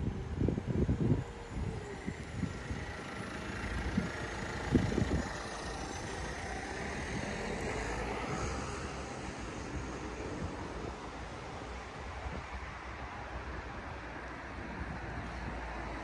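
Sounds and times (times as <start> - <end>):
car engine and road hum: 0.0 - 16.0.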